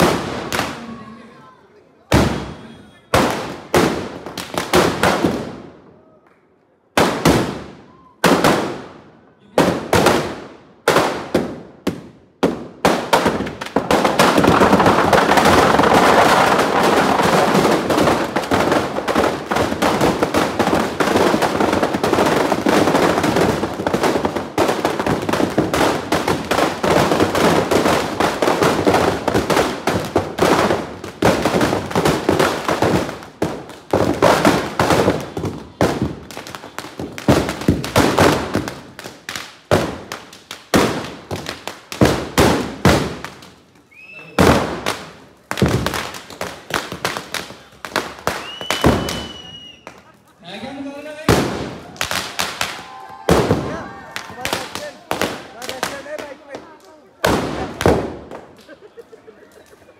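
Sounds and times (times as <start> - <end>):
firecracker bangs with echo: 0.0 - 1.0, 2.1 - 5.7, 7.0 - 43.5, 44.4 - 49.7, 51.2 - 56.6
rapid firecracker crackle: 0.0 - 6.2, 6.9 - 59.9.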